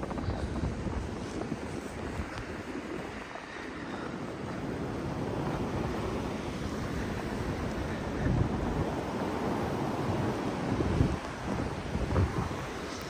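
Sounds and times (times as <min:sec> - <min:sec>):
blizzard wind blowing: 0:00.0 - 0:13.0
wind buffeting microphone: 0:00.0 - 0:13.0.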